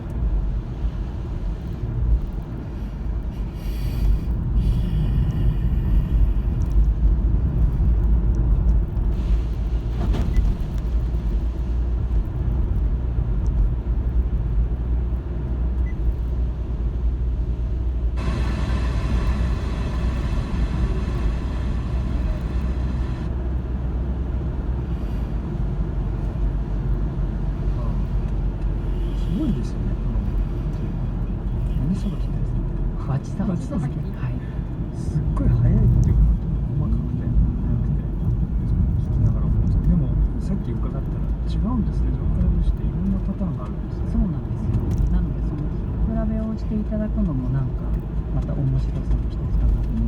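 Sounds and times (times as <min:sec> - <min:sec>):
car tyres and engine rumble: 0:00.0 - 0:50.0.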